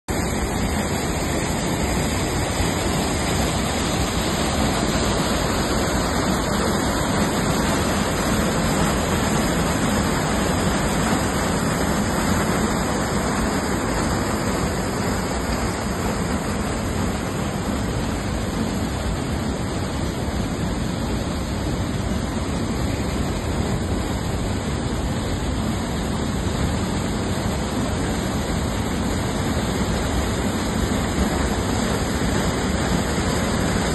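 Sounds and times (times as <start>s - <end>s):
river rushing over rocks: 0.1s - 33.9s.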